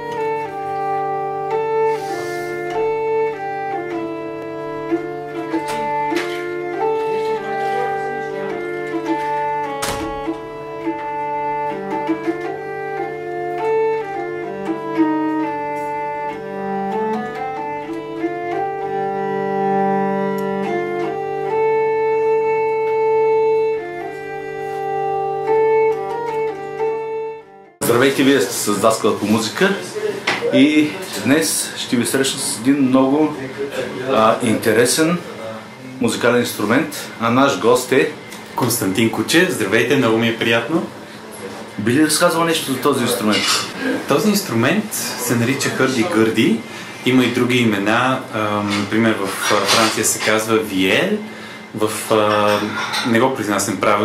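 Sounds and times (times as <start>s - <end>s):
organ-like melody: 0.0s - 54.0s.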